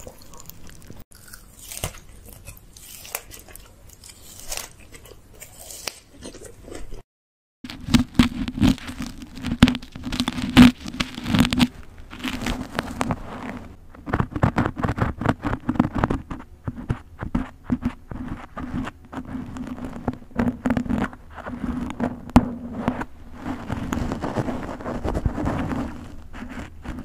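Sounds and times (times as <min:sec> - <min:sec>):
crackling scratching of hair: 0:00.0 - 0:07.0, 0:07.7 - 0:27.0.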